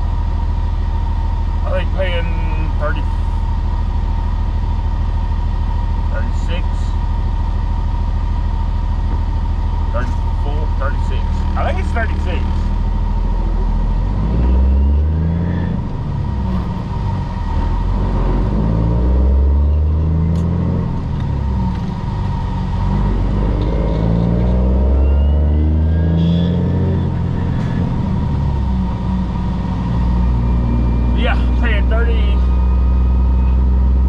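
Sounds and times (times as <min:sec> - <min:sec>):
truck diesel engine accelerating: 0:00.0 - 0:34.0.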